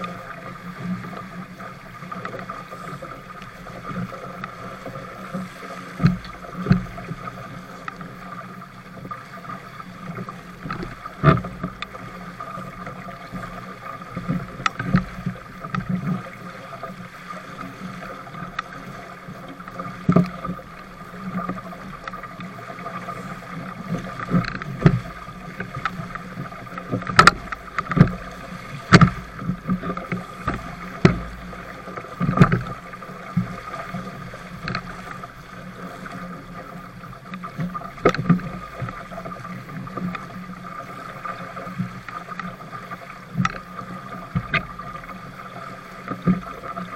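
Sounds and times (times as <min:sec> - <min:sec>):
waves splashing against hull: 0:00.0 - 0:46.9
wind and water rushing: 0:00.0 - 0:46.9.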